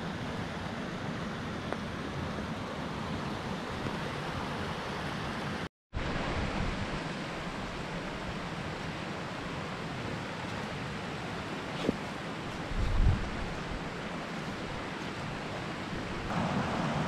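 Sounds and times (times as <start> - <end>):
stream rushing over rocks: 1.3 - 17.0.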